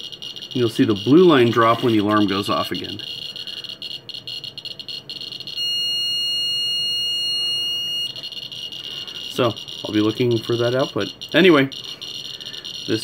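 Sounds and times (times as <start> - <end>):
geiger counter clicking: 0.0 - 5.8, 8.0 - 13.0
high-pitched alarm tone: 0.0 - 13.0.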